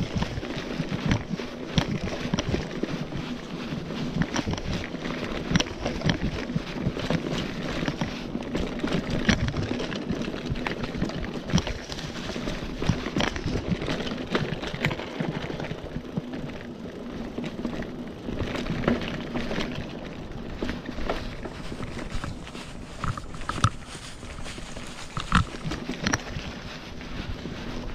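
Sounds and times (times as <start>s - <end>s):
bike clicking and knocking over bumps: 0.0s - 3.3s, 4.0s - 26.6s
bike tyres rolling over dirt: 0.0s - 27.9s.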